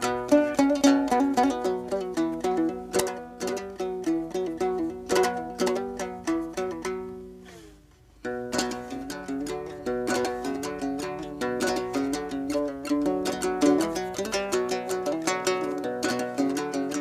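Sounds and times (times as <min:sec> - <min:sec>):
plucked string instrument: 0:00.0 - 0:17.0.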